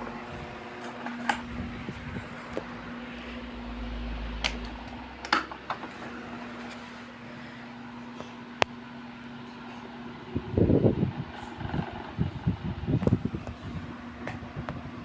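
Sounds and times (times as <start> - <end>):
electric fans humming: 0.0 - 15.0.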